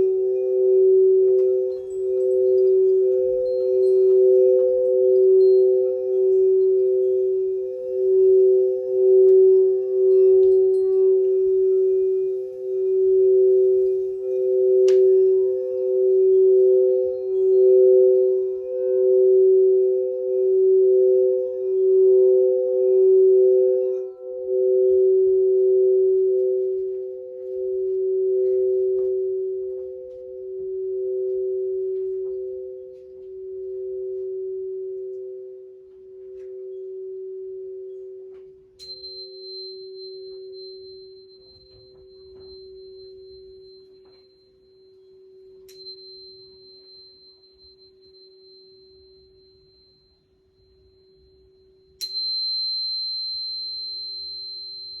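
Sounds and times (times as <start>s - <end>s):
crystal singing bowls ringing: 0.0s - 55.0s
high pure ringing tone struck: 0.0s - 55.0s.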